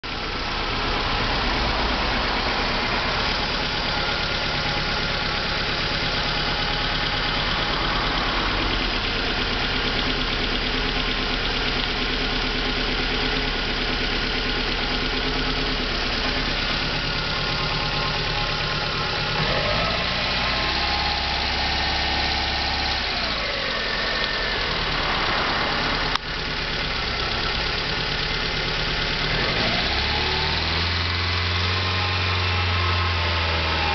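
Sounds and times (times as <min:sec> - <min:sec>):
car engine running and revving: 0:00.1 - 0:33.9.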